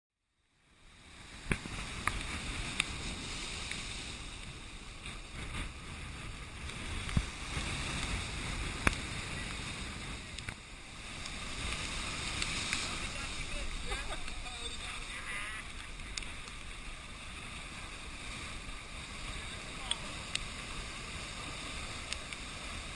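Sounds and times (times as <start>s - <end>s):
surf breaking against rocks: 0.9s - 22.9s
wind on microphone: 0.9s - 22.9s.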